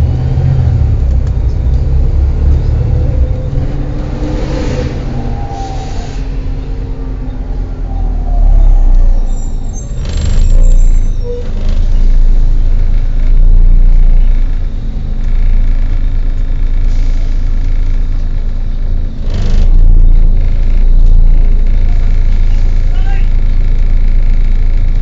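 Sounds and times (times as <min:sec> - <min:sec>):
diesel bus engine rumbling: 0:00.0 - 0:25.0.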